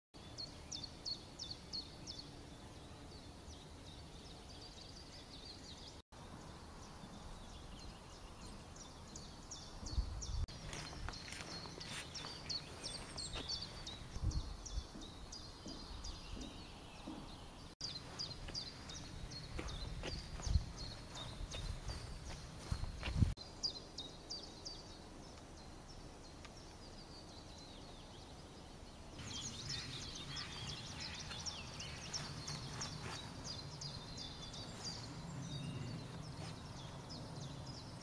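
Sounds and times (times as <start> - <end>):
small songbirds chirping: 0.2 - 38.0.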